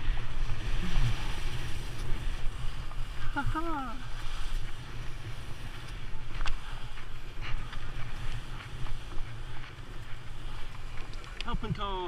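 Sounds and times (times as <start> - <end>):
skis hissing over snow: 0.0 - 12.0
wind rumbling on microphone: 0.0 - 12.0.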